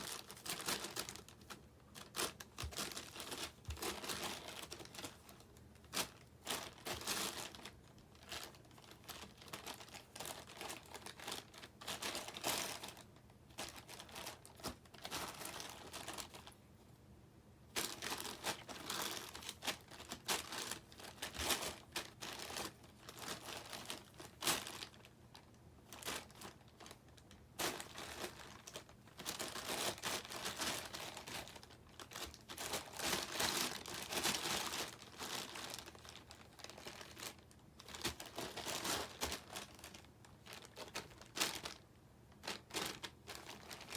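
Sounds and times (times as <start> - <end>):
crinkly wrapper rustling: 0.0 - 16.6, 17.7 - 43.9.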